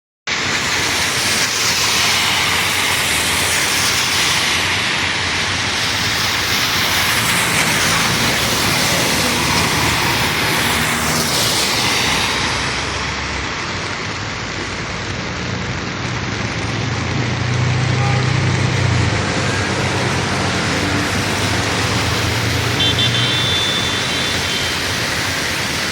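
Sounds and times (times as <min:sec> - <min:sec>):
rain hissing: 0:00.3 - 0:25.9
tyres on wet road: 0:00.3 - 0:25.9
vehicle engines passing: 0:01.1 - 0:25.9.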